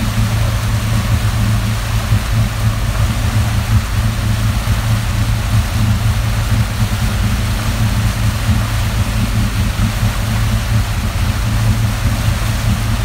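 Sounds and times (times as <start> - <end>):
motorboat engine droning: 0.0 - 13.0.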